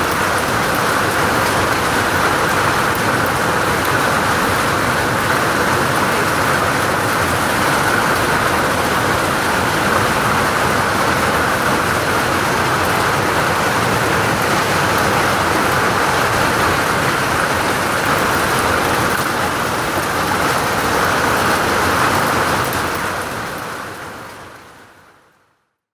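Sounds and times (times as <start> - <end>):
hail and heavy rain pelting: 0.0 - 24.8.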